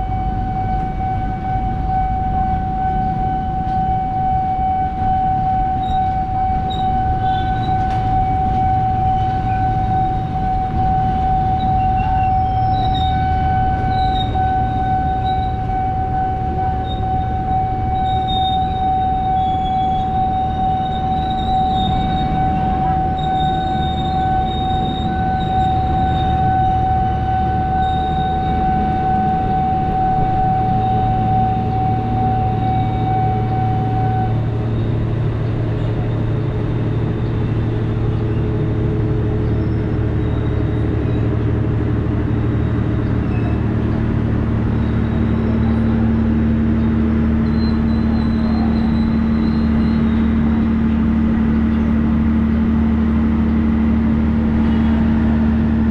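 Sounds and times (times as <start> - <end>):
high steady whine: 0.0 - 55.9
low steady tone: 0.0 - 55.9
train engine hum: 0.0 - 55.9.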